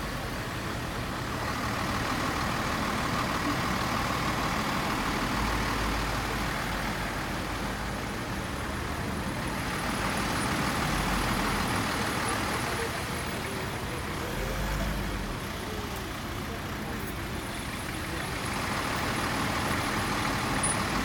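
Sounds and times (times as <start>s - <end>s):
tyres on the road: 0.0s - 21.0s
vehicle engines running: 0.0s - 21.0s.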